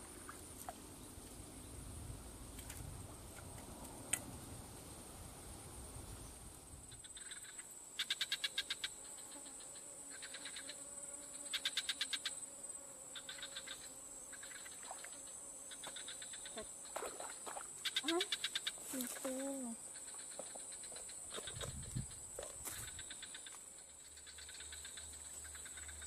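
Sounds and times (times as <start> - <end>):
insects chirping: 0.0 - 26.0.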